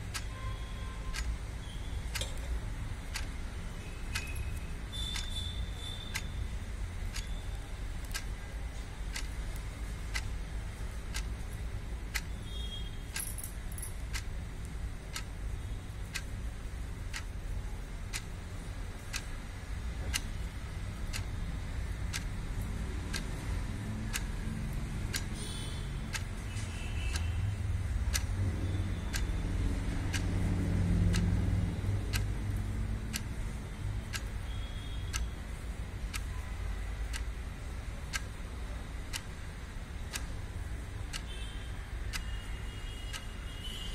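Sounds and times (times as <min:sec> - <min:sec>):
clock ticking: 0:00.0 - 0:43.9.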